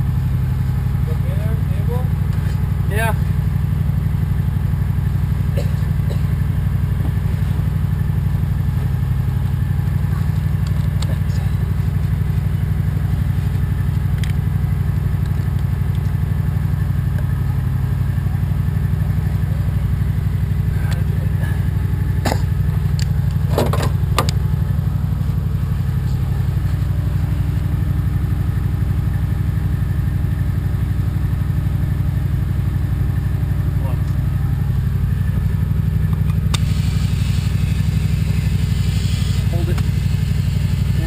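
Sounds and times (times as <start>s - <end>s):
motor droning: 0.0s - 41.0s.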